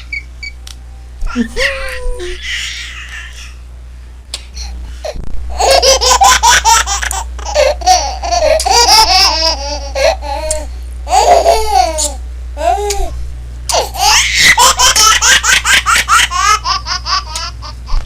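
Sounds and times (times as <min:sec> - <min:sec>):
steady low hum: 0:00.0 - 0:18.0
baby laughing: 0:01.2 - 0:03.6, 0:05.5 - 0:18.0.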